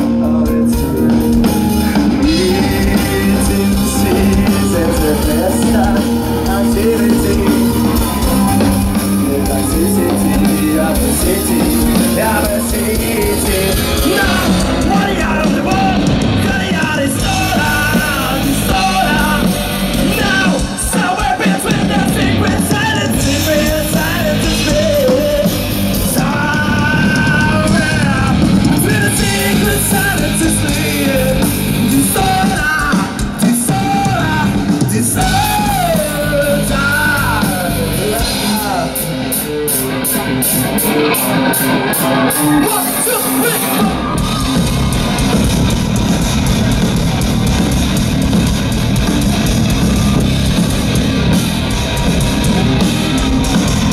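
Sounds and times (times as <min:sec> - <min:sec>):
man singing: 0:00.0 - 0:44.8
rock band playing live: 0:00.0 - 0:53.9.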